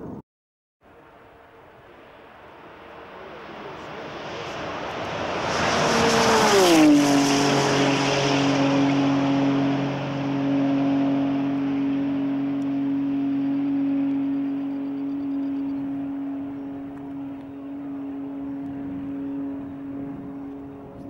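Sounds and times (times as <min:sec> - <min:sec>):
car engine passing at speed: 0:01.1 - 0:21.0.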